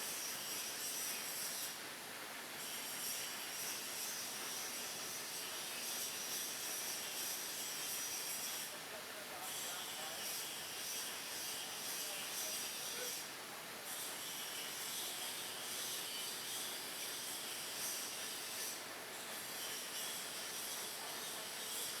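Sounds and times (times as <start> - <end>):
lathe running with hiss: 2.6 - 22.0.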